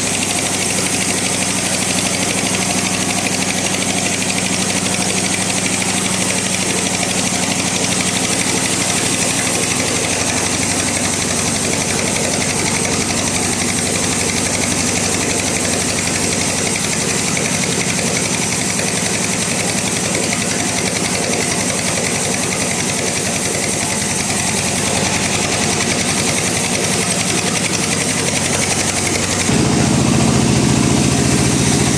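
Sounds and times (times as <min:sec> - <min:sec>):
bandsaw sawing through log: 0:00.0 - 0:31.9.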